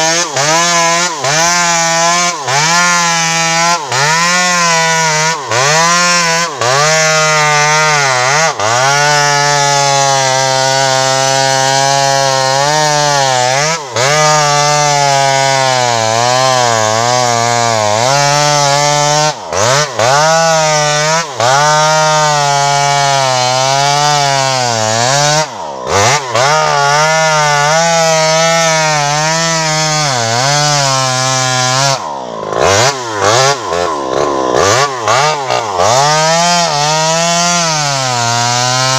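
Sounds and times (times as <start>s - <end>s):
chainsaw cutting at high revs: 0.0s - 38.9s.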